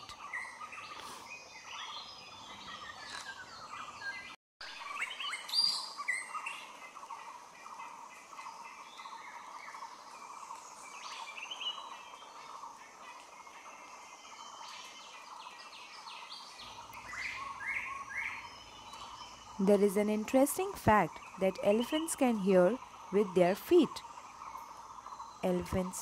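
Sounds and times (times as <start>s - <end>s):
birds chirping and calling: 0.0s - 26.0s.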